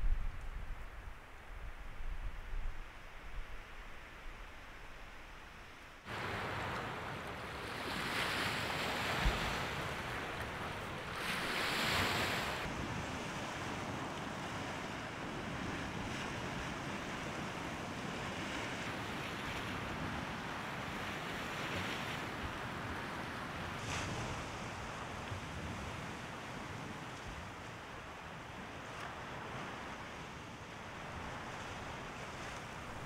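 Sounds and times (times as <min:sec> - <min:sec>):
wind: 0:00.0 - 0:33.0
waves washing onto shore: 0:06.0 - 0:33.0.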